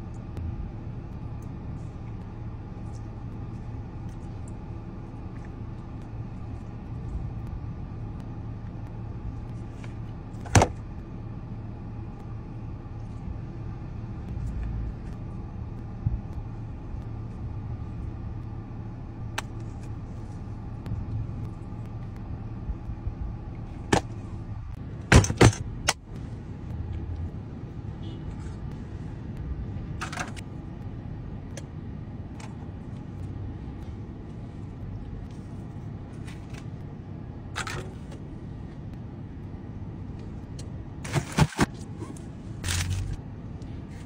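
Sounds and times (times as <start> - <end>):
car engine idling hum: 0.0 - 44.0.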